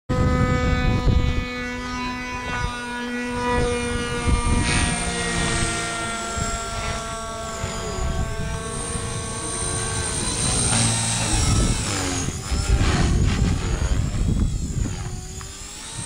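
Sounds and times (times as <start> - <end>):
model helicopter rotor whine: 0.1 - 16.0.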